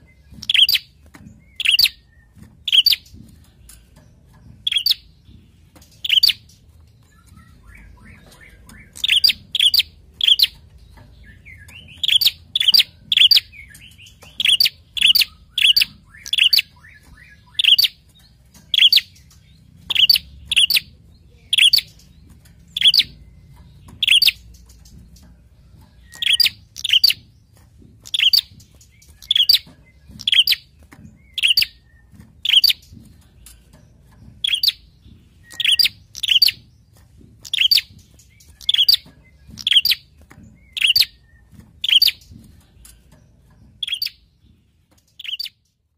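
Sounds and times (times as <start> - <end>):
bird giving sharp chirps: 0.0 - 3.2, 4.6 - 5.2, 6.0 - 10.6, 11.2 - 25.0, 26.0 - 33.0, 34.4 - 42.4, 43.8 - 44.3, 45.0 - 45.6.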